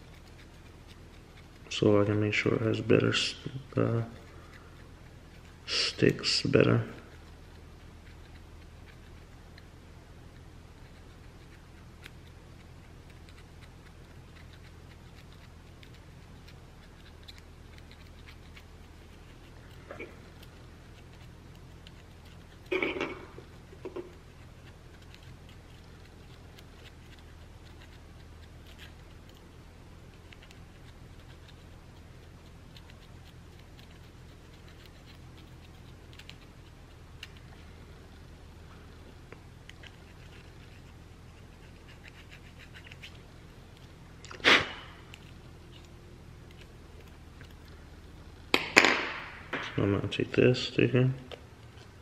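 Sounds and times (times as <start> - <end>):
low room hum: 0.0 - 52.0.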